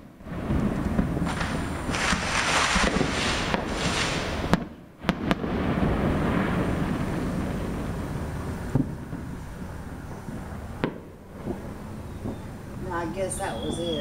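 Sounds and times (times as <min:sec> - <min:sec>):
sharp firework bangs: 0:00.0 - 0:12.6
fireworks crackling bursts: 0:00.0 - 0:14.0
fireworks rumbling: 0:00.0 - 0:14.0.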